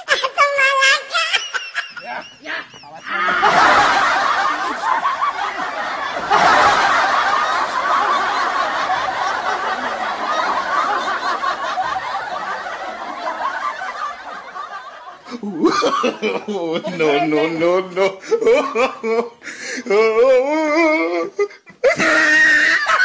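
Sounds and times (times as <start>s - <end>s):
crowd laughing: 0.8s - 23.0s.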